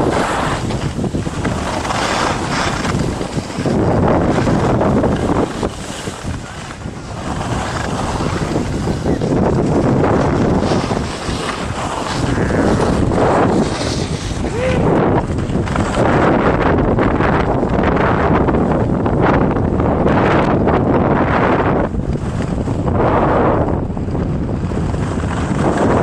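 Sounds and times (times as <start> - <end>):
skis scraping on snow: 0.0 - 17.4, 21.0 - 26.0
wind rushing over microphone: 0.0 - 26.0.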